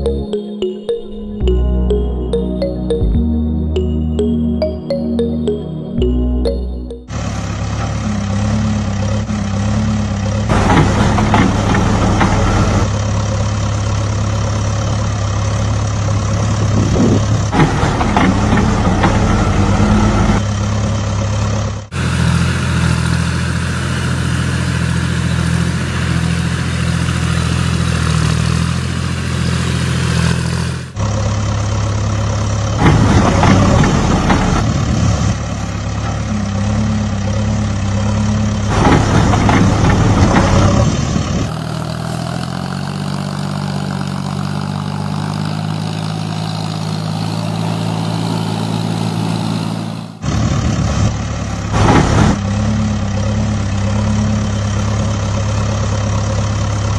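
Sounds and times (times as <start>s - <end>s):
vehicle engine idling: 5.5s - 48.5s, 49.2s - 56.9s.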